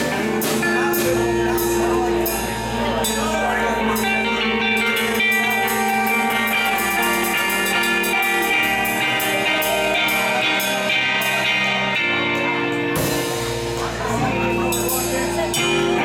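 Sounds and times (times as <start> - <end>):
amplified electric guitars: 0.0 - 16.0
drum kit: 0.0 - 16.0.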